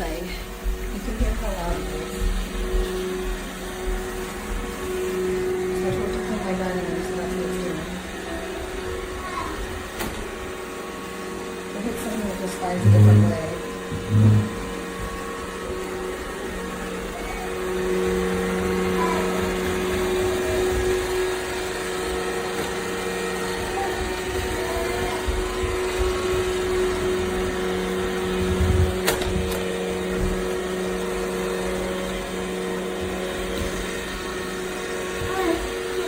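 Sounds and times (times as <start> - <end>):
robot vacuum running: 0.0 - 36.0.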